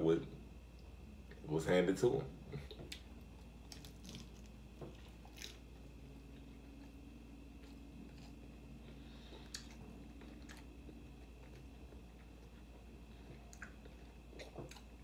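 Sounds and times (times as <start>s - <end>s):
soft wet chewing: 2.4s - 15.0s.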